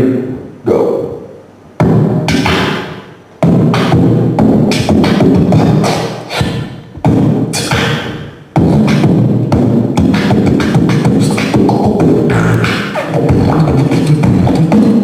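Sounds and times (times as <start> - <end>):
person beatboxing: 1.8 - 15.0.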